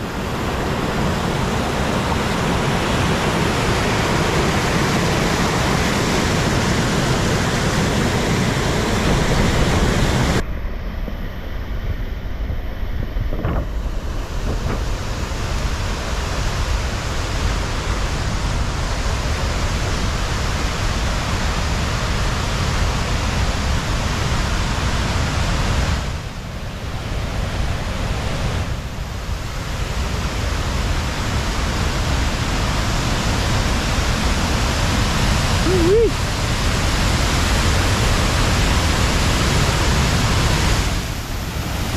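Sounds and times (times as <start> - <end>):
waterfall rushing: 0.0 - 10.4, 14.0 - 41.9.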